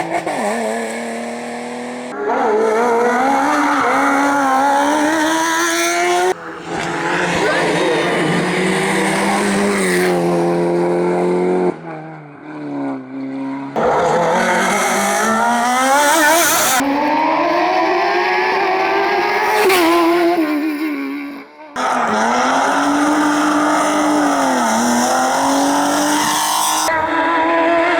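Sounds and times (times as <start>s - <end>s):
race car engines accelerating: 0.0s - 27.9s.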